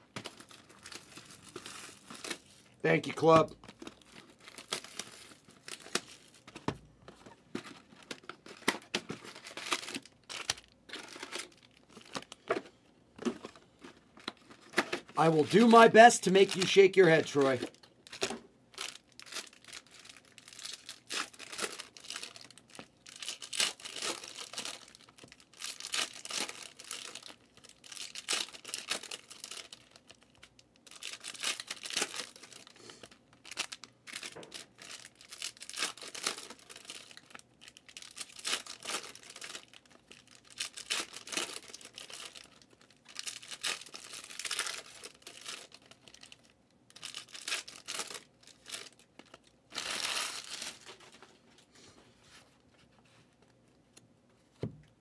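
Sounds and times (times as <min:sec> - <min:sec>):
foil wrappers crinkling: 0:00.0 - 0:06.6, 0:07.2 - 0:12.5, 0:13.3 - 0:51.4.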